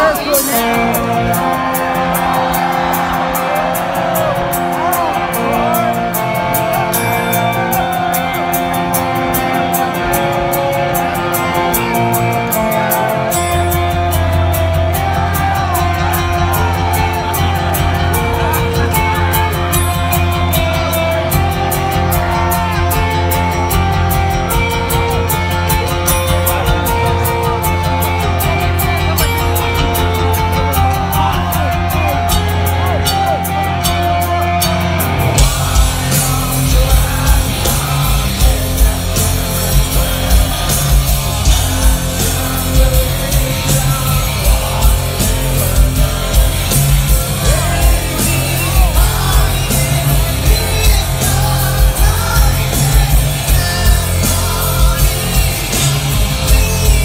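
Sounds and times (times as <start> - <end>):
drums: 0.0 - 57.0
electric guitar: 0.0 - 57.0
heavy kick-drum beats: 0.0 - 57.0
singing and shouted vocals: 0.0 - 57.0.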